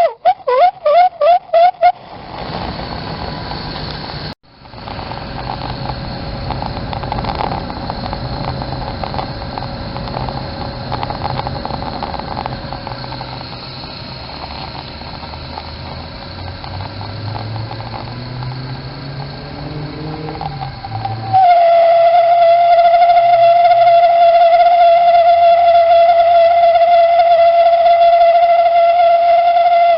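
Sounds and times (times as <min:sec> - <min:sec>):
loud whistle-like burner howl: 0:00.0 - 0:29.9
low wavering hum: 0:00.0 - 0:29.9
heater combustion rumble: 0:01.4 - 0:29.9.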